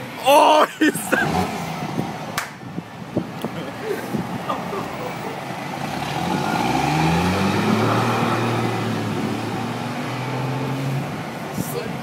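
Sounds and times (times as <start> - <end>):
diesel pickup engine revving: 0.8 - 12.0.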